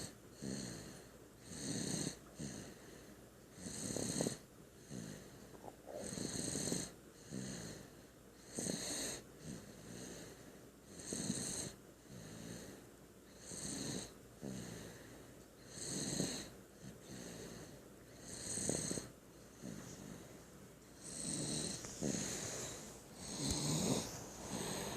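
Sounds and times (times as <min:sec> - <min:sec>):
loud rattly snoring: 0:00.0 - 0:02.7, 0:03.6 - 0:10.2, 0:10.9 - 0:12.7, 0:13.4 - 0:14.9, 0:15.7 - 0:17.6, 0:18.2 - 0:20.0, 0:21.0 - 0:24.9
soft breaths: 0:02.1 - 0:03.3, 0:04.2 - 0:11.0, 0:11.7 - 0:24.9.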